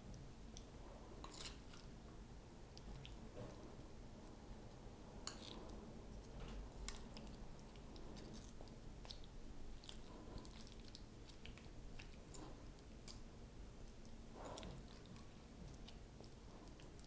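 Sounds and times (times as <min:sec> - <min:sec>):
spoon squishing food: 0:00.5 - 0:17.0.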